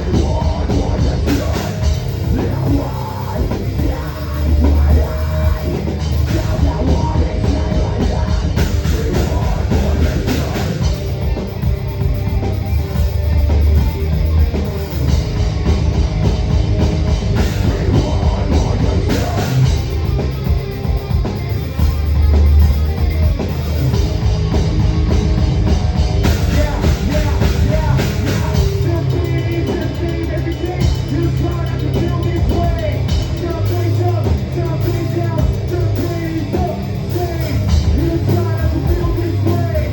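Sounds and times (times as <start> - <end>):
drum kit played fast: 0.0 - 39.9
heavy metal band: 0.0 - 39.9.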